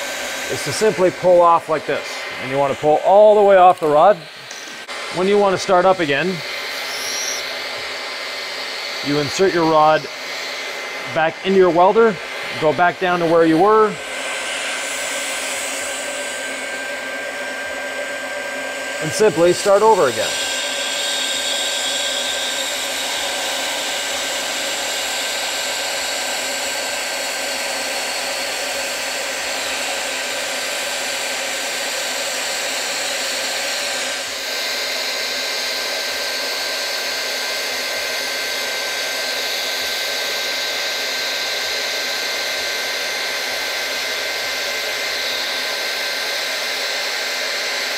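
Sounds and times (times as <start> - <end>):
hot-air welding gun blowing: 0.0 - 47.9.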